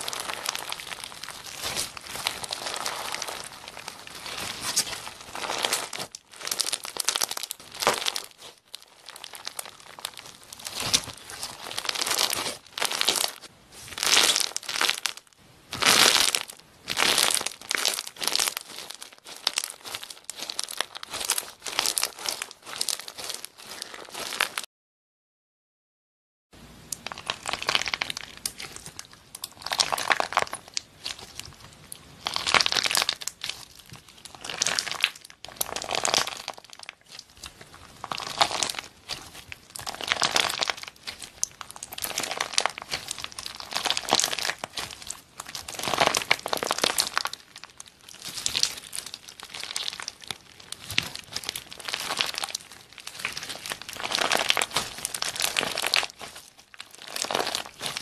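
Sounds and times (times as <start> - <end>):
crunchy slime squishing: 0.0 - 24.7, 26.8 - 58.0.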